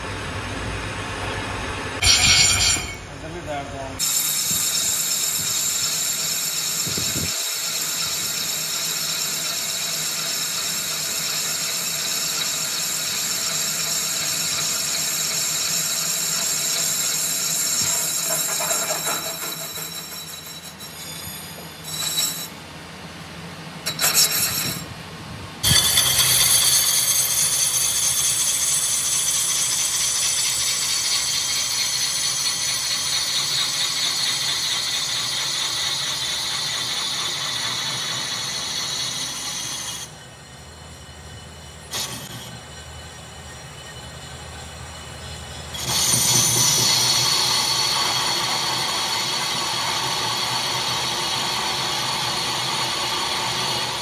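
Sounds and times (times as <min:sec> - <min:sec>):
metal lathe cutting: 0:04.0 - 0:22.5, 0:25.6 - 0:54.0.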